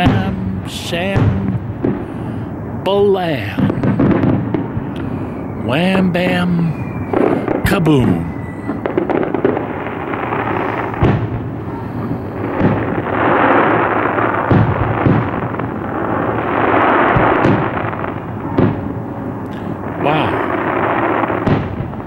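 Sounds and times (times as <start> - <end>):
fireworks booming: 0.0 - 22.0
sharp fireworks bangs: 0.0 - 22.0.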